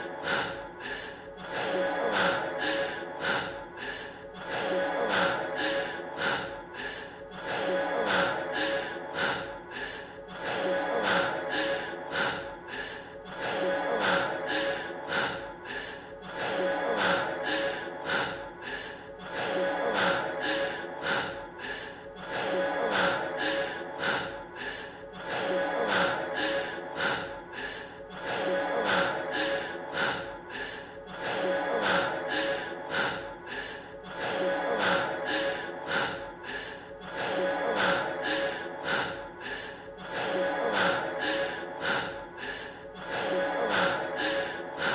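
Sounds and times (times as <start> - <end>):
man breathing heavily and gasping: 0.0 - 44.9.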